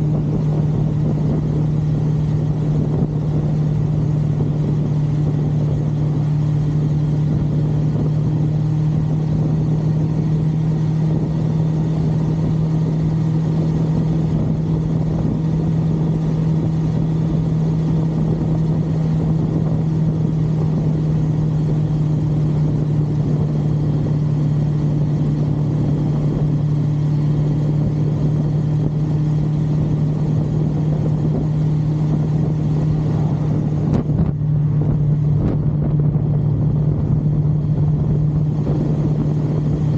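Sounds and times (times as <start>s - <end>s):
motorcycle engine cruising: 0.0s - 39.9s
steady rush of noise: 0.0s - 39.9s.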